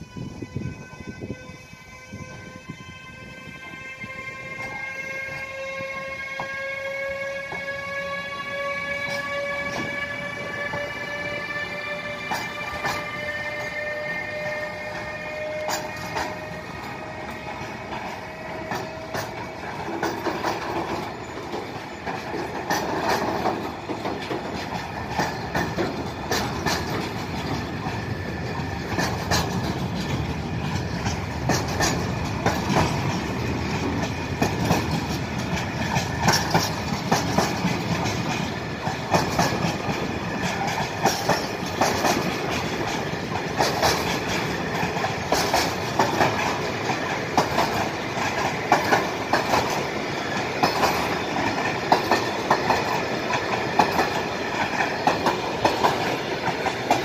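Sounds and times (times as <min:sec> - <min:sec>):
freight train wheels rumbling: 0:00.0 - 0:57.0
wheels clicking over rail joints: 0:06.4 - 0:57.0.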